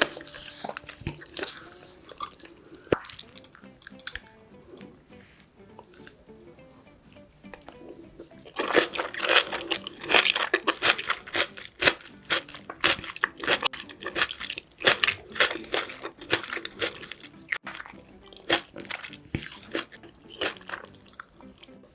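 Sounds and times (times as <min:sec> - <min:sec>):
wet crunchy chewing: 0:00.0 - 0:05.0, 0:07.1 - 0:21.8.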